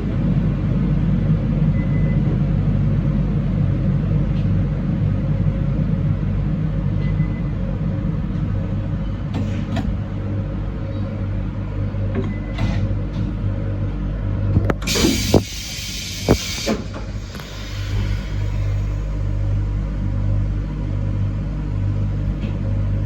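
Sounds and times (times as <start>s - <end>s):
train rumble and hum: 0.0s - 23.0s.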